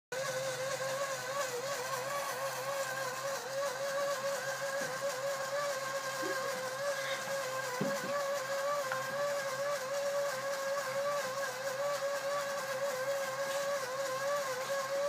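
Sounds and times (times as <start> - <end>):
small electric fan motor whirring: 0.1 - 15.0.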